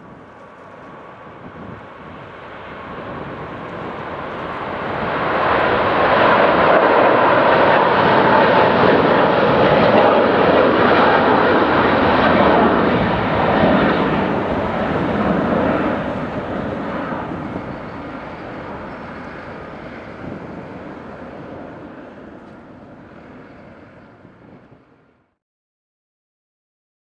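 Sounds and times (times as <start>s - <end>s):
jet engines roaring at takeoff: 0.0s - 25.3s.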